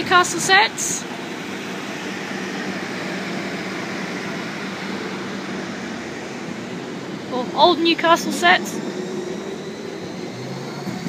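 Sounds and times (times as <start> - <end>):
electric train humming: 0.0 - 11.0
low drone: 0.0 - 11.0.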